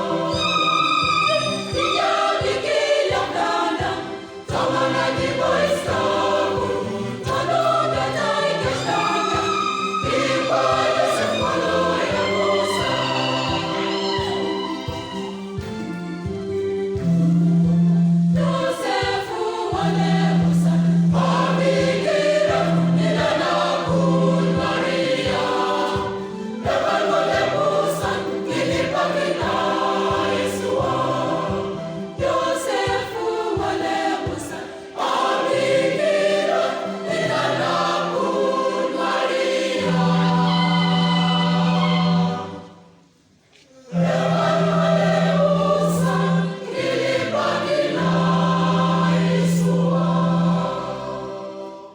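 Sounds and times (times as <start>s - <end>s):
choir singing gospel song: 0.0s - 51.9s.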